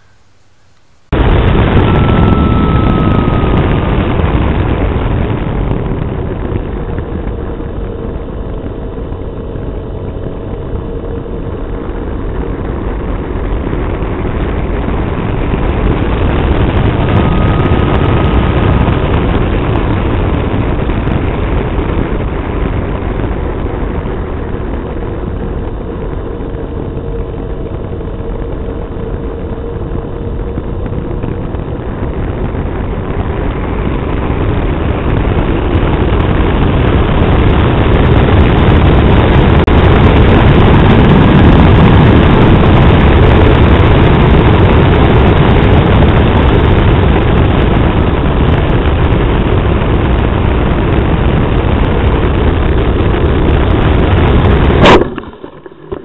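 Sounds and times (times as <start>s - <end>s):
motor and propeller whine: 0.0s - 56.0s
wind rushing over camera: 0.0s - 56.0s.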